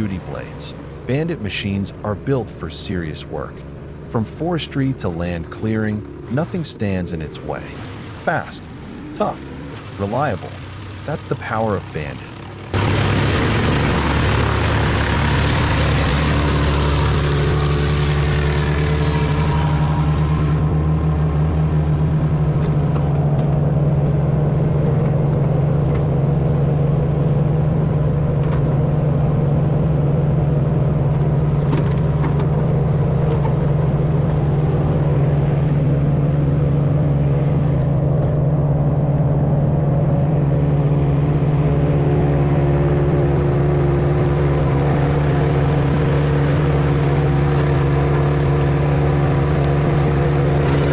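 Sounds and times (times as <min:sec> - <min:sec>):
wood chipper engine running: 0:09.2 - 0:50.9.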